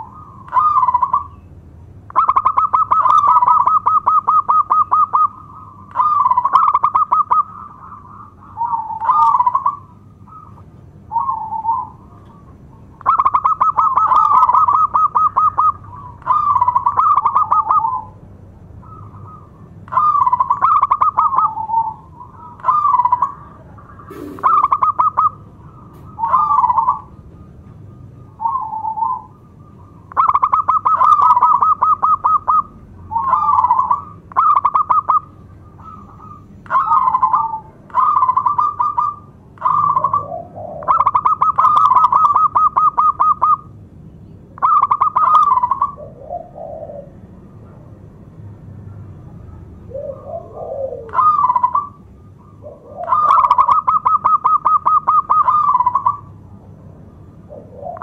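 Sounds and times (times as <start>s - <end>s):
dove cooing: 0.0s - 43.7s, 44.6s - 48.0s, 49.1s - 56.4s, 57.3s - 58.0s.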